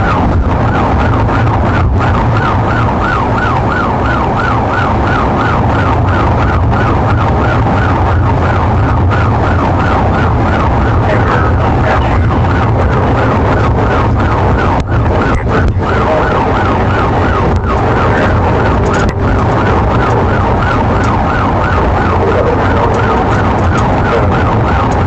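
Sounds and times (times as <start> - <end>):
car engine and tyres rumbling: 0.0 - 25.0
police siren yelping: 0.0 - 25.0.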